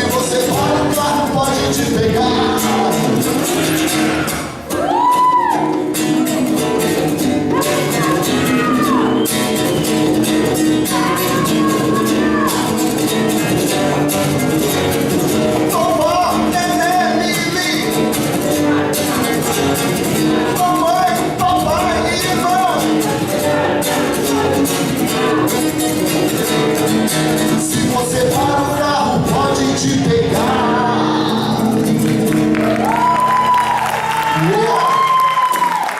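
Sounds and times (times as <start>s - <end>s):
live band music: 0.0s - 35.8s.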